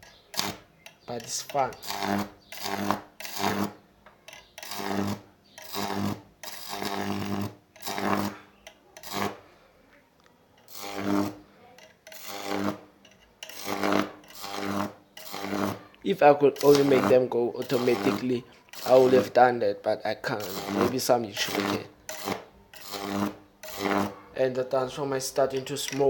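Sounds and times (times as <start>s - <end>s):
electric arc buzzing and crackling: 0.0s - 3.8s, 4.6s - 9.5s, 10.6s - 26.0s.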